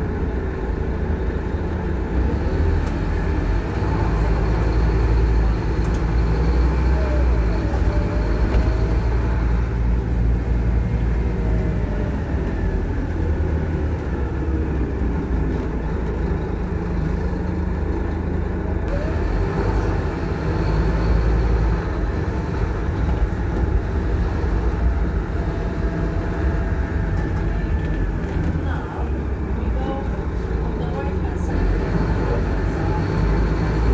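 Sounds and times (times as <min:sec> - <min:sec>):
bus diesel engine drone: 0:00.0 - 0:33.9
engine whines: 0:00.0 - 0:33.9
road noise: 0:00.0 - 0:33.9.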